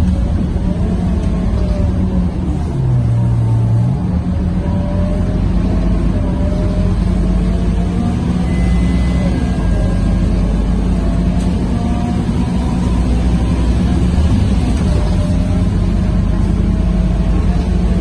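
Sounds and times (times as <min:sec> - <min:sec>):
bus diesel engine accelerating: 0:00.0 - 0:18.0.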